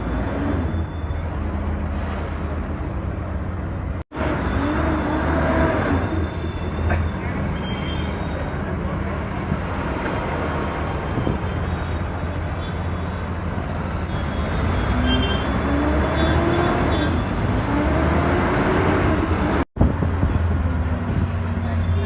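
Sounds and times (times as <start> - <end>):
road noise rushing: 0.0 - 22.0.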